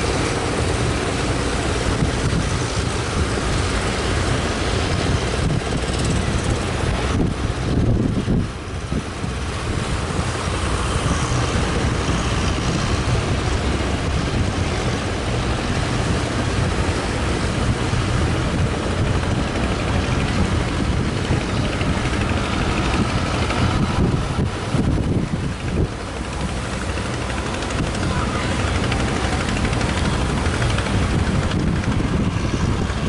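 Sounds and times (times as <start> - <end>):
boat engine running: 0.0 - 33.0
wind buffeting microphone: 0.0 - 33.0.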